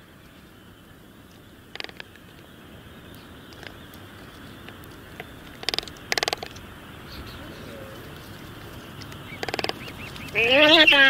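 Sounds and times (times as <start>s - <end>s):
background hiss: 0.0s - 11.0s
pulsed buzzy animal calls: 1.6s - 11.0s.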